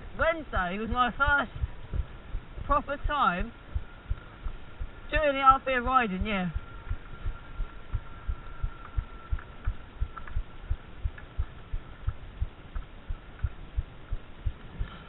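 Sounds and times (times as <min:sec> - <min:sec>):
dull low thumps: 0:00.8 - 0:15.0.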